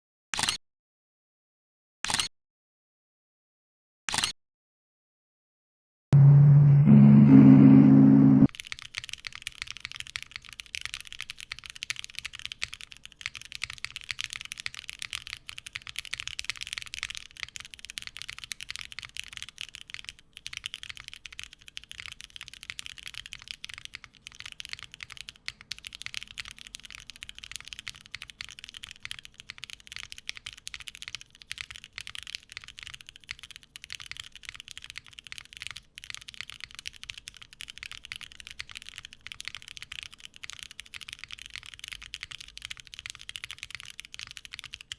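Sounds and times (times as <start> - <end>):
mechanical keyboard typing: 8.5 - 44.9.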